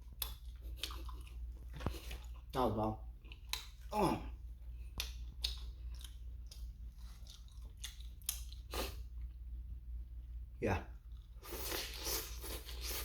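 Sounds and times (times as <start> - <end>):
person chewing crunchy food: 0.0 - 9.4, 11.0 - 13.0.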